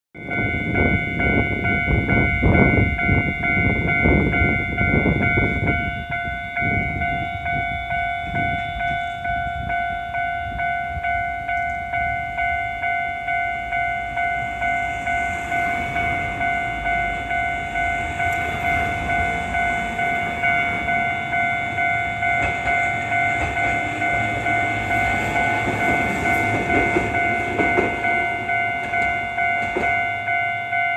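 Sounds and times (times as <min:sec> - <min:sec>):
level-crossing alarm ringing: 0:00.2 - 0:30.9
tram wheels rumbling on rails: 0:00.2 - 0:30.9.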